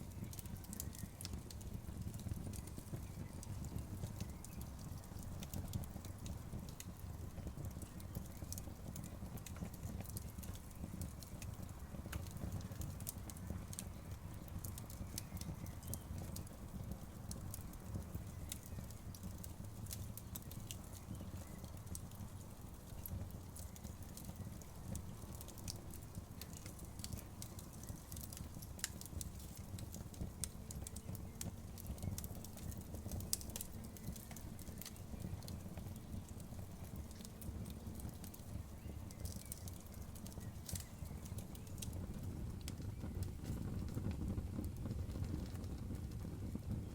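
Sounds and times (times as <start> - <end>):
burning wood crackling: 0.0 - 46.9
fire flames rumbling: 0.0 - 46.9.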